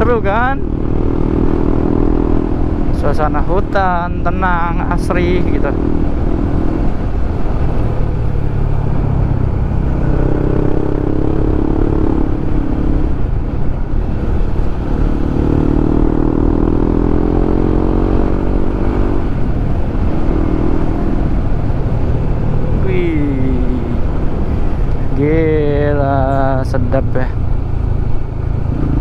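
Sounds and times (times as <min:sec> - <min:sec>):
wind and road rumble: 0:00.0 - 0:29.0.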